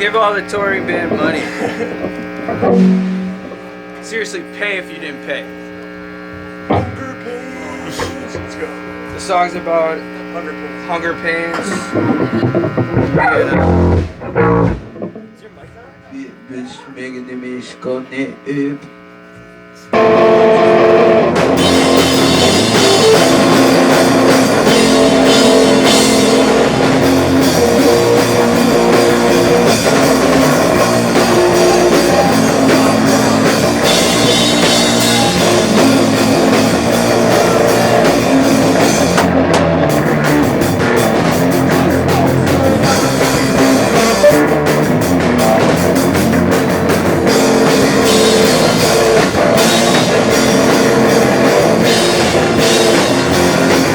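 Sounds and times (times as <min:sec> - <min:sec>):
drum kit: 0:00.0 - 0:04.5, 0:10.5 - 0:15.4, 0:20.0 - 0:53.9
electric guitars: 0:00.0 - 0:53.9.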